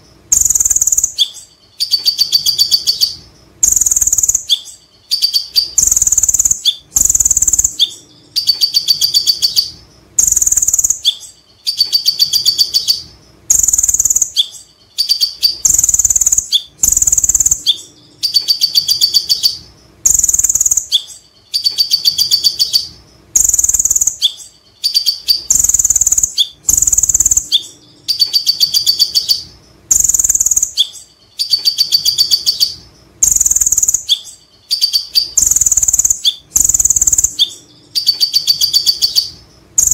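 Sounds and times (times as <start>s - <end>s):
sunbird singing trills: 0.3s - 39.9s.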